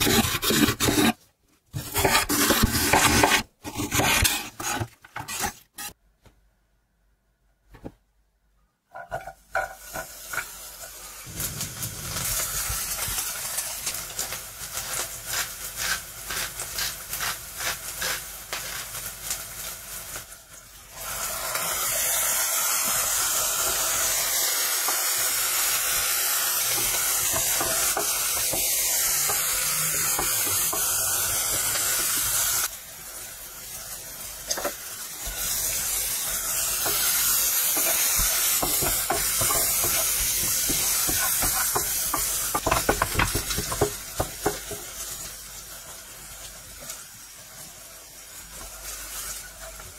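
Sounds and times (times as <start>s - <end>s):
onion frying in oil: 9.1s - 49.9s.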